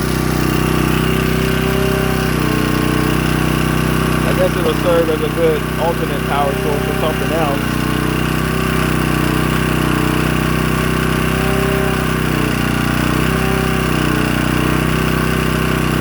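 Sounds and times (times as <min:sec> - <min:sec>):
generator engine running: 0:00.0 - 0:16.0.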